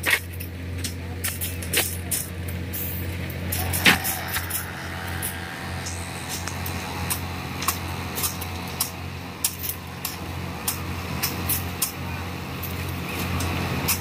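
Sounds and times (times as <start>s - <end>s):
heavy machinery droning: 2.4s - 14.0s.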